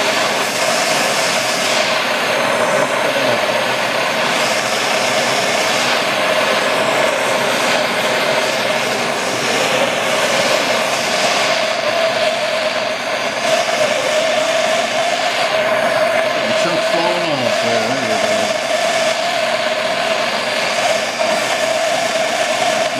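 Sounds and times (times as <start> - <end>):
propane torch flame hissing: 0.0 - 22.9.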